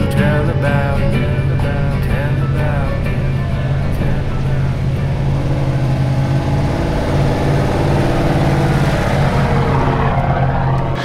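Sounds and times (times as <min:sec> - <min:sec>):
truck engine droning under load: 0:00.0 - 0:11.0.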